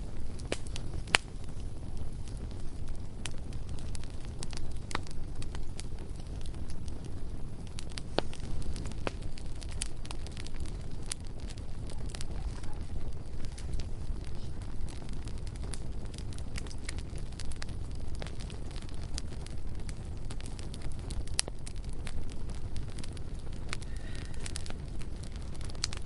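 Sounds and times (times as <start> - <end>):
bonfire crackling: 0.0 - 26.0
low rumble: 0.0 - 26.0.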